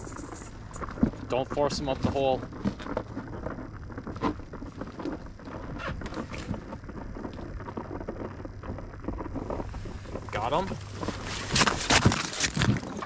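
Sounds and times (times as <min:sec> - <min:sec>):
small clicks and rustles: 0:00.0 - 0:13.0
wind rumbling on microphone: 0:00.0 - 0:13.0.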